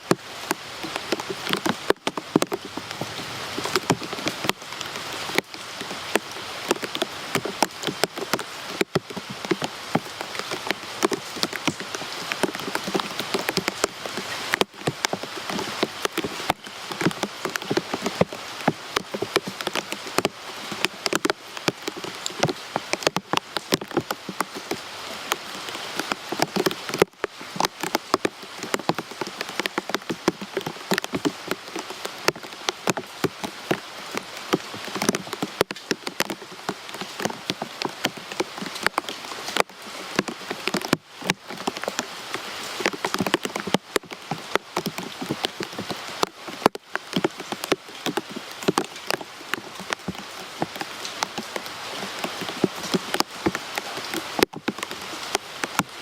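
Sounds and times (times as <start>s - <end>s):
rain drops tapping hard surface: 0.0s - 56.0s
rain hiss: 0.0s - 56.0s.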